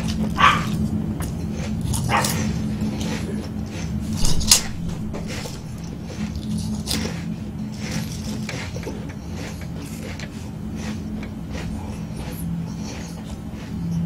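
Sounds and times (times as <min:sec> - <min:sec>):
crunching and chewing snack: 0:00.0 - 0:14.0
steady low hum: 0:00.0 - 0:14.0.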